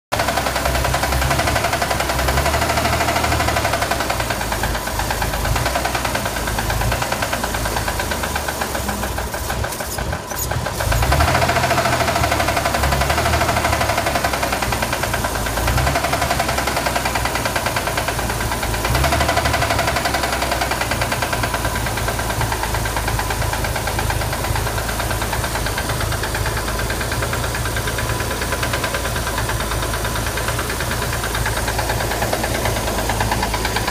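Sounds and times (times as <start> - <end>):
engine running with rapid knock: 0.1 - 33.9.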